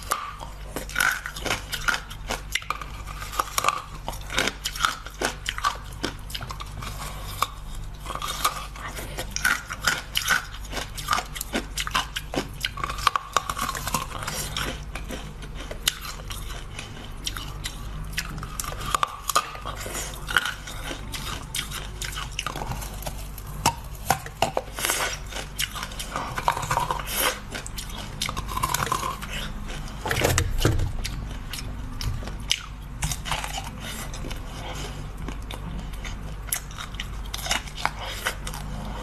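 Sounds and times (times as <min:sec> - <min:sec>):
biting and chewing corn: 0:00.0 - 0:39.0.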